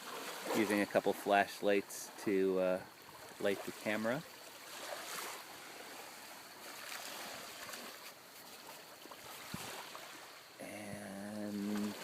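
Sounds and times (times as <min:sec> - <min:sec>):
waves lapping at shoreline: 0:00.0 - 0:12.0.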